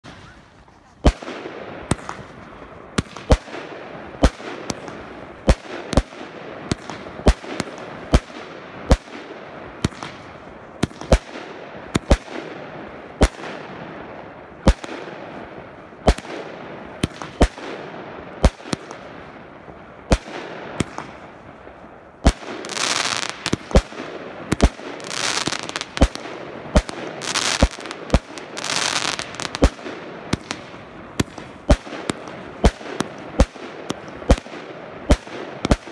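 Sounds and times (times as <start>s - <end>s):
fireworks crackling: 0.0s - 13.7s, 14.5s - 35.9s
fireworks bangs: 0.0s - 35.9s.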